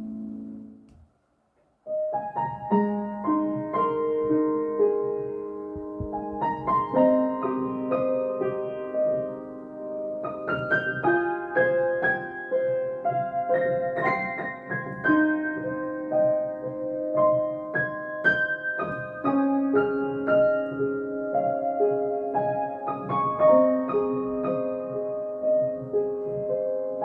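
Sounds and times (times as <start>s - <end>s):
slow gentle piano melody: 0.0s - 27.0s.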